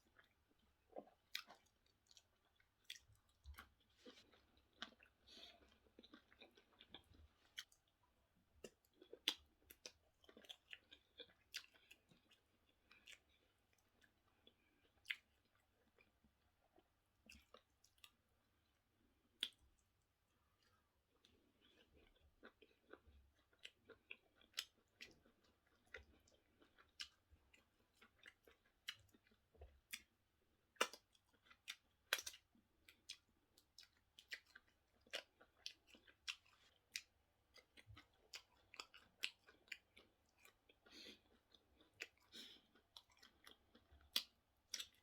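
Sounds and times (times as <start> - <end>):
close chewing and mouth clicks: 0.0 - 45.0.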